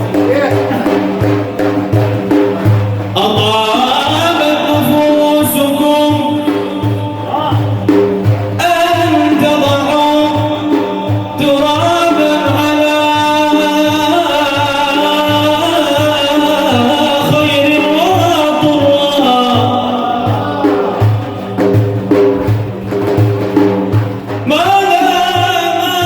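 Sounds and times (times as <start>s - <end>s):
drums beating steady rhythm: 0.0s - 26.0s.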